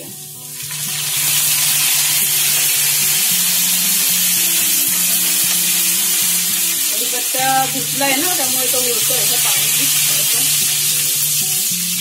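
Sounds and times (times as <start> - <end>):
leaves sizzling in hot oil: 0.0 - 12.0
soft background music: 0.0 - 12.0.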